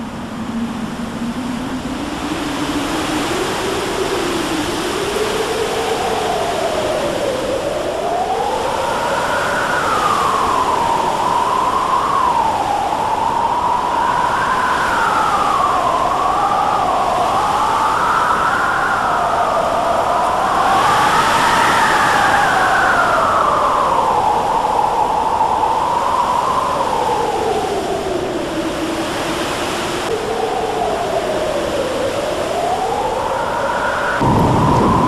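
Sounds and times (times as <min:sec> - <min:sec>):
rush of wind noise: 0:00.0 - 0:35.0
storm wind howling: 0:00.0 - 0:35.0.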